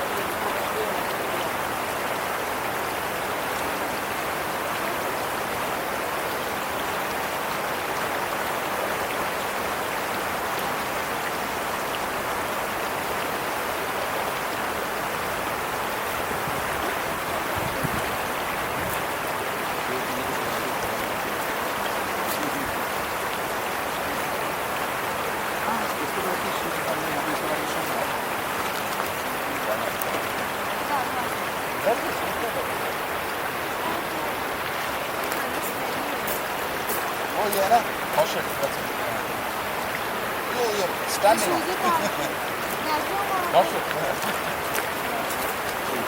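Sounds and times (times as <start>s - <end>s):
water rushing: 0.0s - 46.0s.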